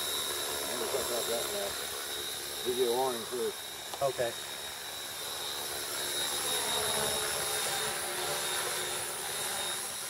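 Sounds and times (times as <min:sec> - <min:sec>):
model helicopter motor whine: 0:00.0 - 0:10.0.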